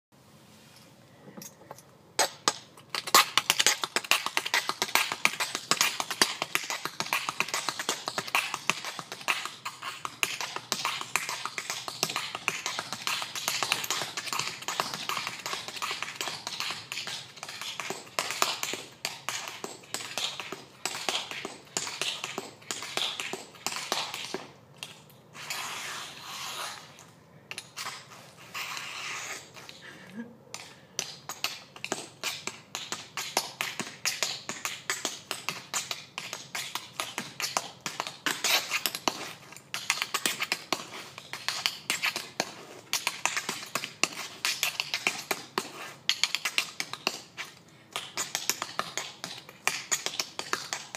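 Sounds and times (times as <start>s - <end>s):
tap shoes on concrete: 2.2s - 29.8s, 30.5s - 50.9s.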